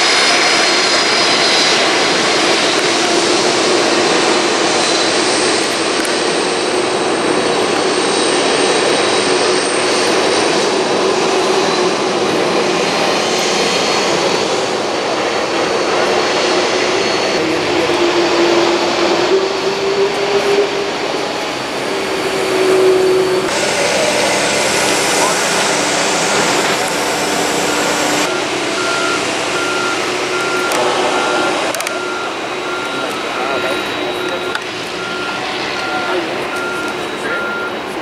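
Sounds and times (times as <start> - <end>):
high jet engine whine: 0.0 - 38.0
jet engines roaring: 0.0 - 38.0.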